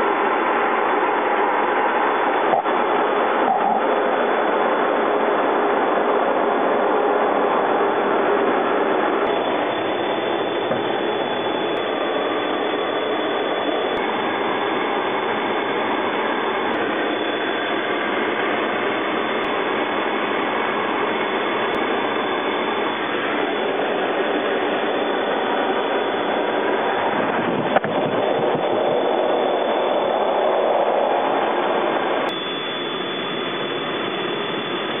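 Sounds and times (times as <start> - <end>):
jet engine roar in cockpit: 0.0 - 35.0.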